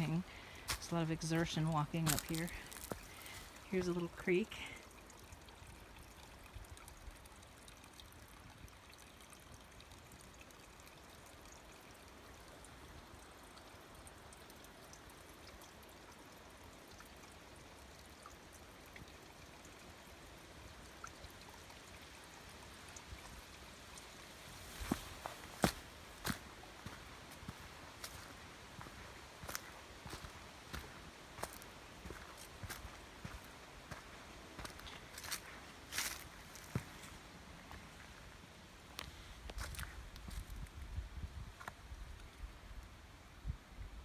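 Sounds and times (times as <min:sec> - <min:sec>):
creek trickling over stones: 0:00.0 - 0:44.0.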